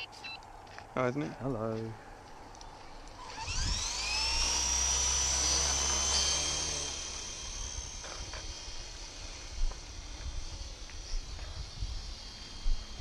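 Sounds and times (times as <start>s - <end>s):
rc helicopter rotor whine: 2.4s - 13.0s.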